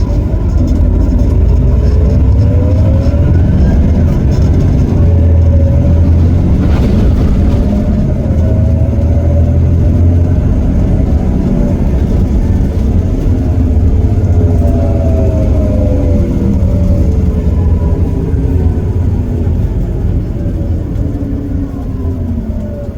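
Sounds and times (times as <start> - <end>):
bus diesel engine rumble: 0.0 - 22.9
drivetrain whine: 0.0 - 22.9.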